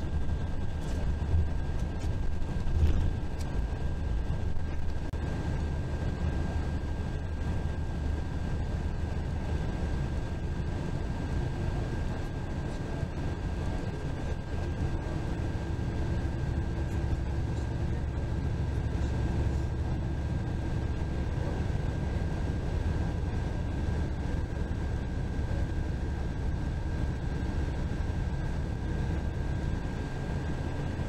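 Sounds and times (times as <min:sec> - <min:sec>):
bus engine and tyre rumble: 0:00.0 - 0:31.0
thin steady whine: 0:00.0 - 0:31.0.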